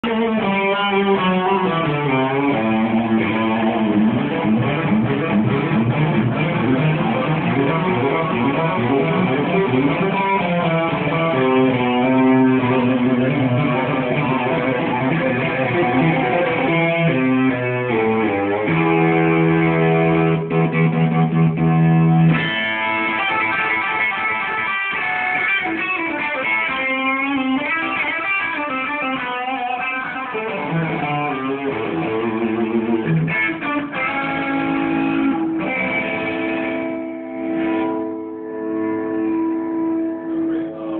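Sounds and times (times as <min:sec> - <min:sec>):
electric guitar lead playing: 0:00.0 - 0:40.9.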